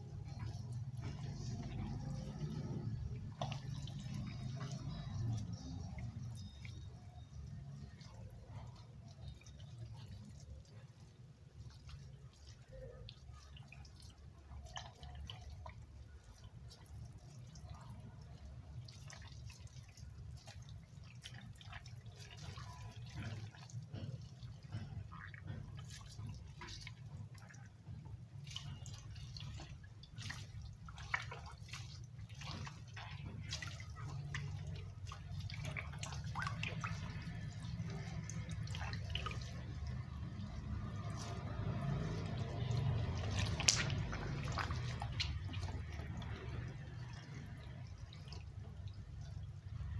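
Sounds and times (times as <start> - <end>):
low background rumble: 0.0 - 49.9
water dripping and splashing in basin: 0.0 - 49.9.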